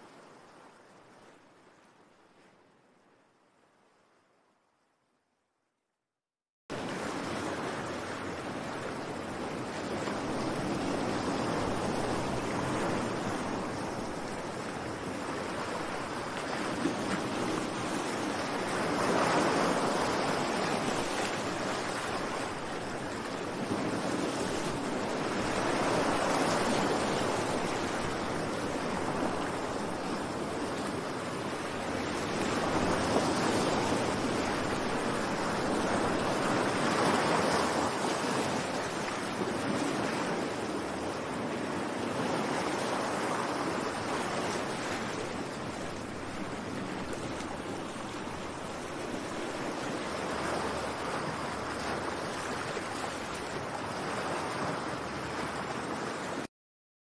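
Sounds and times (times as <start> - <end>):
waves breaking on beach: 6.7 - 56.5.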